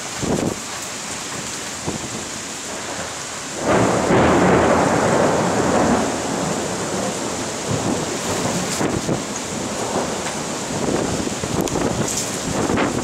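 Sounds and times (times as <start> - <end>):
heavy rain falling: 0.0 - 13.0
thunder rumble: 1.3 - 13.0.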